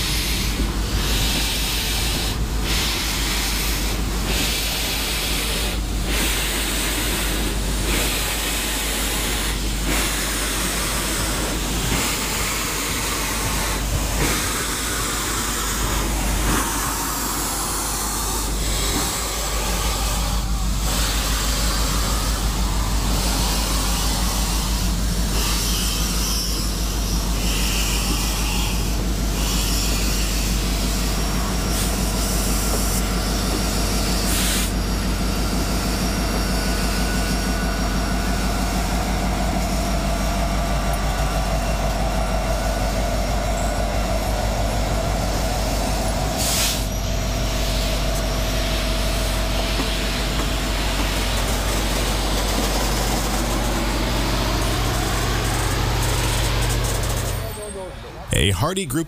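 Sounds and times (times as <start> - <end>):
steam locomotive exhaust rush: 0.0 - 58.5.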